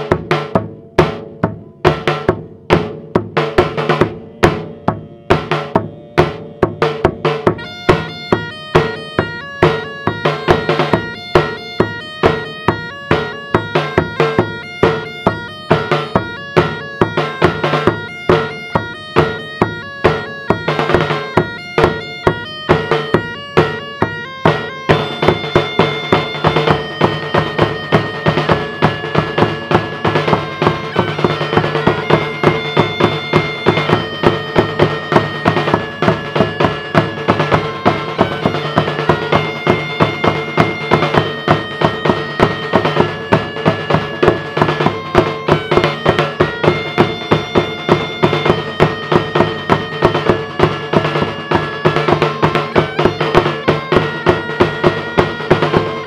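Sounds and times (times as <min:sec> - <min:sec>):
bass drum: 0:00.0 - 0:56.0
snare drum: 0:00.0 - 0:56.0
bagpipe playing lively tune: 0:03.4 - 0:56.0.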